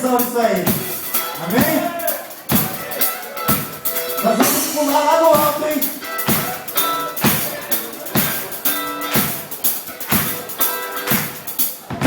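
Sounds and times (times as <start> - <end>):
sustained guitar chords: 0.0 - 11.4
drum kit beat: 0.0 - 12.0.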